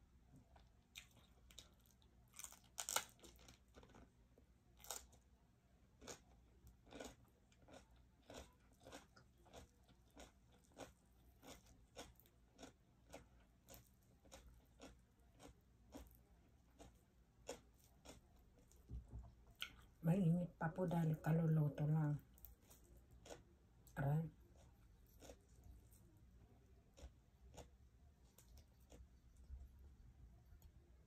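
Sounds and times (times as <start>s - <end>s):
mouth chewing cabbage: 0.5s - 5.2s, 6.0s - 18.8s, 22.0s - 30.7s.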